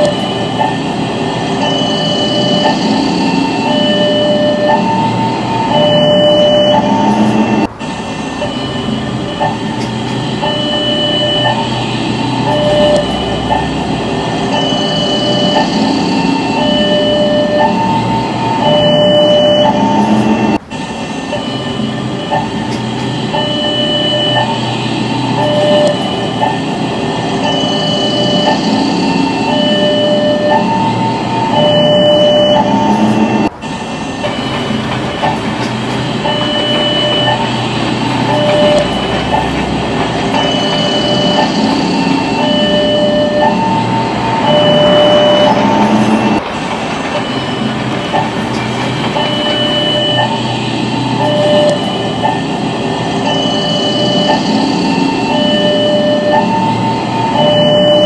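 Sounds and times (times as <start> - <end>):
passing train rumble: 0.0 - 58.0
railroad crossing alarm: 0.0 - 58.0.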